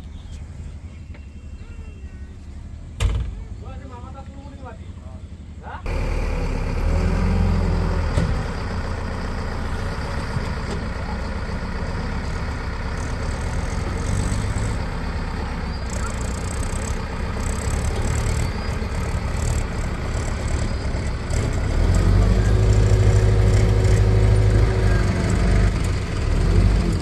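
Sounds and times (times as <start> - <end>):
diesel engines running: 0.0 - 27.0.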